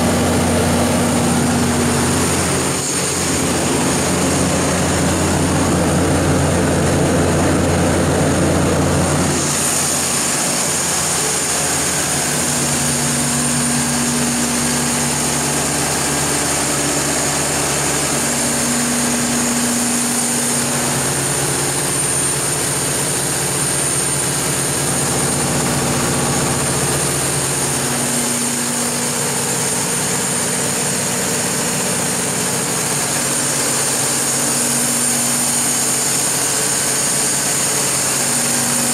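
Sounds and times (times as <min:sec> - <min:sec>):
generator hum: 0:00.0 - 0:38.9
high whine: 0:00.0 - 0:38.9.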